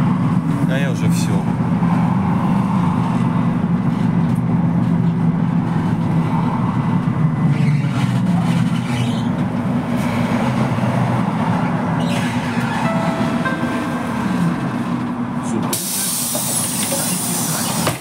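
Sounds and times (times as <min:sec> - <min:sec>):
trolleybus interior hum and rumble: 0:00.0 - 0:18.0.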